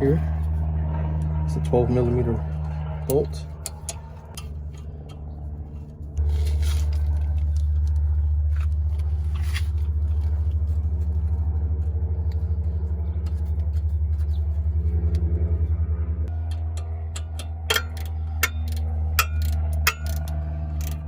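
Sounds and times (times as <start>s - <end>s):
pulsing machine hum: 0.0s - 21.0s.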